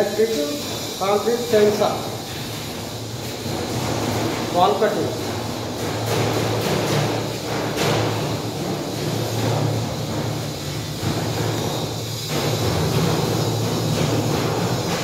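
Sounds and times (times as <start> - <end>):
hiss: 0.0 - 15.0.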